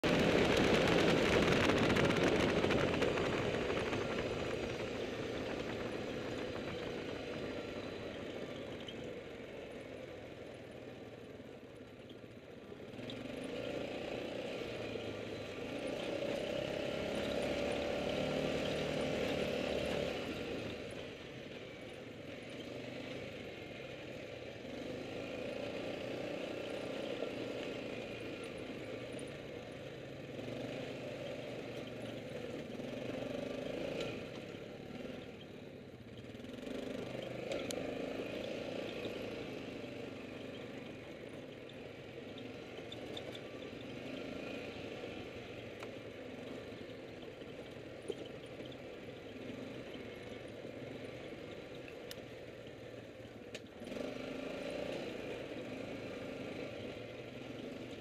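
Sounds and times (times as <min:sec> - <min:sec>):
quad bike engine revving: 0:00.0 - 0:10.1, 0:12.9 - 0:35.6, 0:36.2 - 0:58.0.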